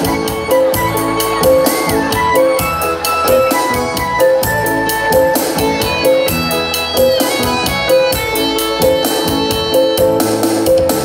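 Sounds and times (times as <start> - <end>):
drum kit beat: 0.0 - 11.0
keyboard: 0.0 - 11.0.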